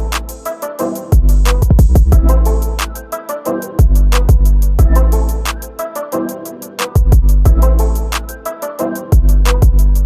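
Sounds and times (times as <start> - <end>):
music with heavy bass and drums: 0.0 - 3.2, 3.8 - 5.8, 6.7 - 10.0.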